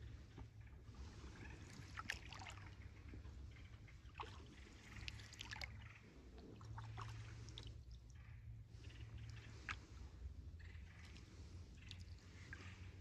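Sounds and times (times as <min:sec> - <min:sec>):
paddle dipping in water: 0:00.2 - 0:08.1, 0:08.7 - 0:13.0.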